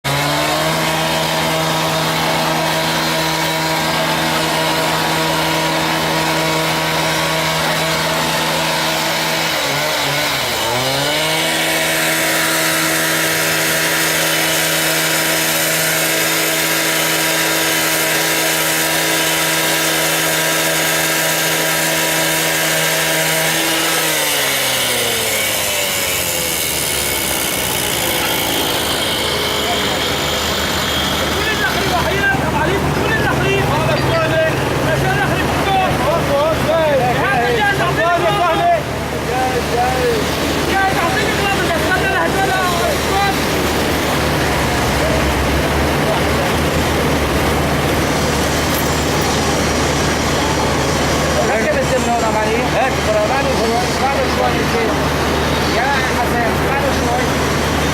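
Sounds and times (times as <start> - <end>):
small engine power tool running: 0.0 - 57.9.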